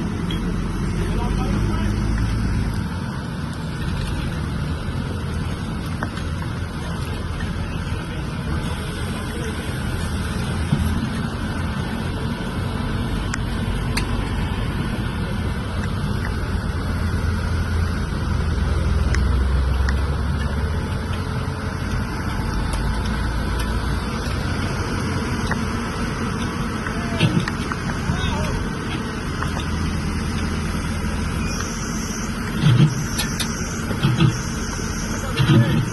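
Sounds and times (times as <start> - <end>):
low rumble of vehicle engines: 0.0 - 35.9.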